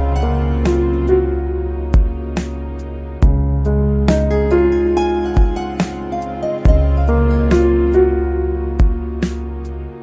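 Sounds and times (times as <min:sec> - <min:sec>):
gentle new-age music: 0:00.0 - 0:10.0.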